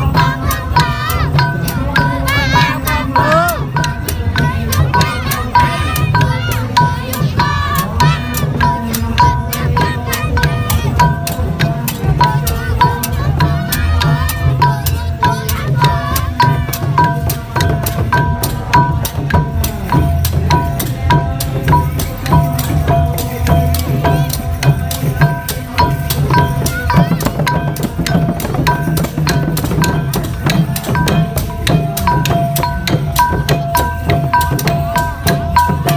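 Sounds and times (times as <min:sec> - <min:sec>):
hand drums beating: 0:00.0 - 0:35.9
small metal percussion ringing: 0:00.0 - 0:35.9.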